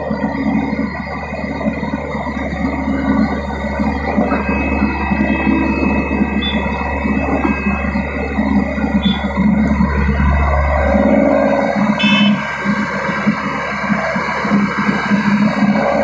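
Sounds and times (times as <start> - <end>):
heavy diesel machinery engine hum: 0.0 - 16.0
pulsing rumble: 0.0 - 16.0
steady high whine: 0.0 - 16.0.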